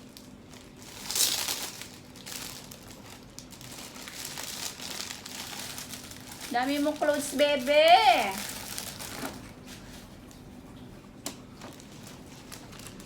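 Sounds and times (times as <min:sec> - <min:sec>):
gift packaging crinkling: 0:00.0 - 0:10.1, 0:11.4 - 0:13.0.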